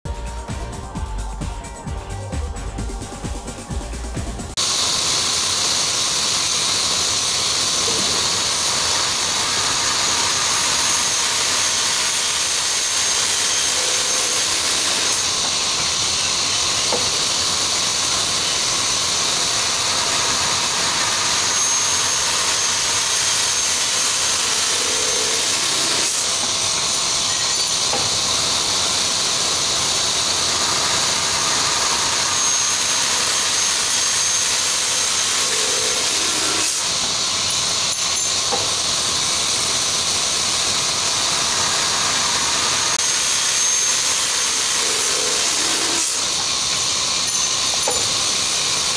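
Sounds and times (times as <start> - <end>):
cutting saw machine hissing: 0.1 - 48.9.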